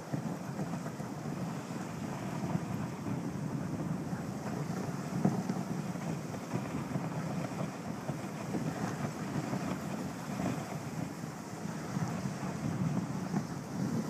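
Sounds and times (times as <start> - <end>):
sled runners scraping on snow: 0.0 - 14.0
wind on microphone: 0.0 - 14.0.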